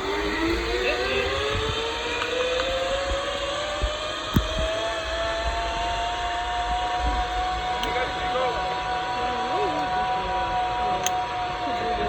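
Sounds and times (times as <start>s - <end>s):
rush of wind: 0.0s - 12.0s
zipline pulleys whining on cable: 0.0s - 12.0s.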